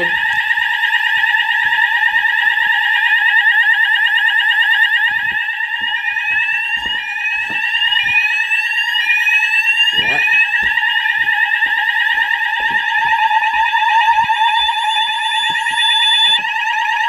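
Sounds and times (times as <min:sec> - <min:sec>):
rising sweep alarm tone: 0:00.0 - 0:17.0
warbling fire alarm tone: 0:00.0 - 0:17.0.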